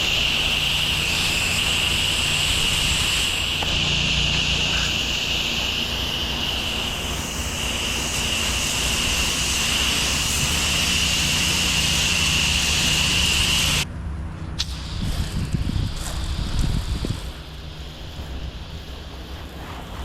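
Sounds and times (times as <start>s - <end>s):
pressure washer engine humming: 0.0s - 13.9s, 14.6s - 20.0s
pressure washer water jet hissing: 0.0s - 13.9s, 14.6s - 20.0s.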